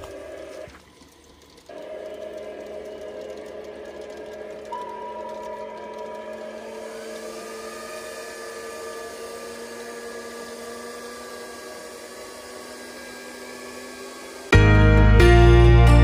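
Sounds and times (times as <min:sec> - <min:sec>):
model train motor whine: 0:00.0 - 0:14.5
low hum: 0:01.2 - 0:14.5.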